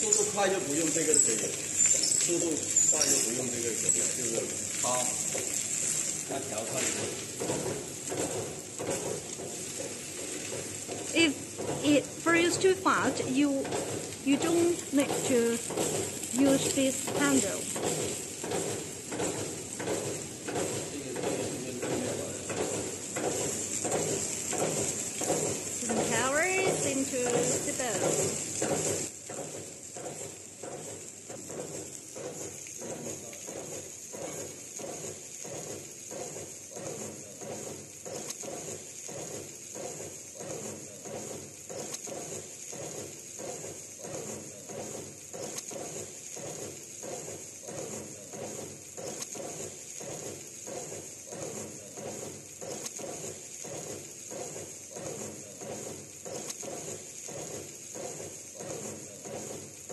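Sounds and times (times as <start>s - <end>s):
constant high hiss: 0.0s - 59.9s
rice rattling and sizzling in wok: 0.0s - 59.9s.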